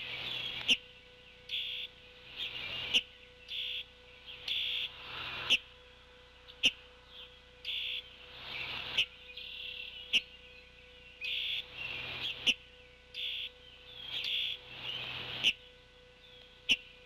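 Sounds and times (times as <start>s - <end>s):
small birds calling: 0.0s - 17.0s.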